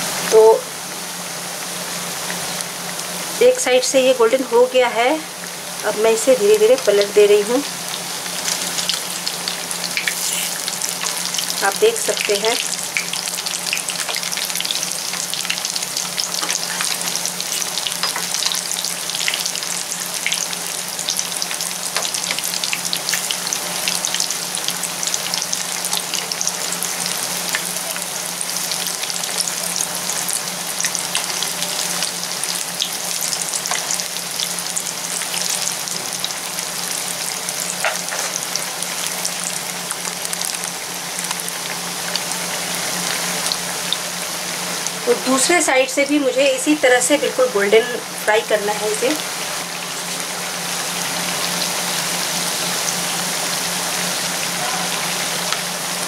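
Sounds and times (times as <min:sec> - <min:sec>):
food deep-frying in oil: 0:00.0 - 0:56.0.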